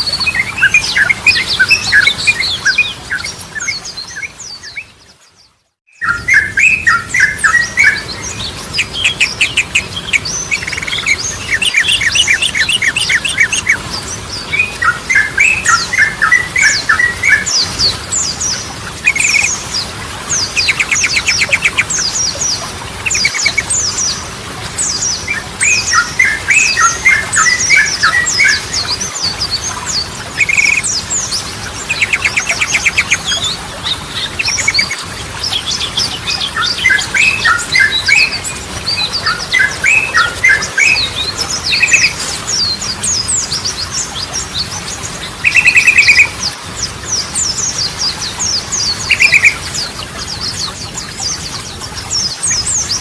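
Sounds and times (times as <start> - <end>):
bird trilling and chirping: 6.0 - 24.2, 24.8 - 46.5, 47.1 - 51.5.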